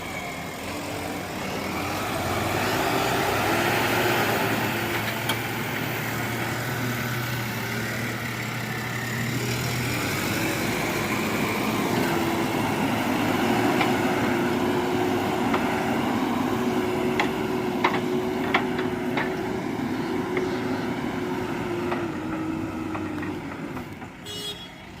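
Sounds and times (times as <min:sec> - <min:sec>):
heavy vehicle engine droning: 0:00.0 - 0:25.0.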